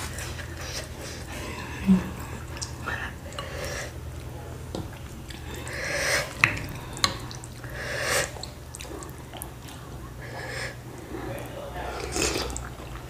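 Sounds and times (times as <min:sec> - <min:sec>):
noodles stirred with soft wet swishes: 0:00.0 - 0:13.0.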